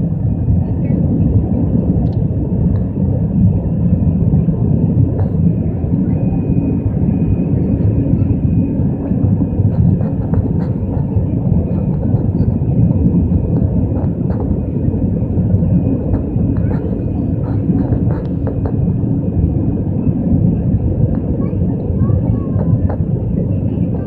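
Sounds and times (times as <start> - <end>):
faint high whine: 0.0 - 24.0
jet engine roar in cabin: 0.0 - 24.0.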